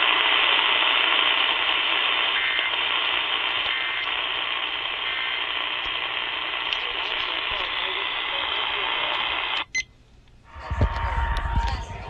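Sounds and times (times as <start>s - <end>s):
radio static hiss: 0.0s - 9.8s, 10.5s - 12.0s.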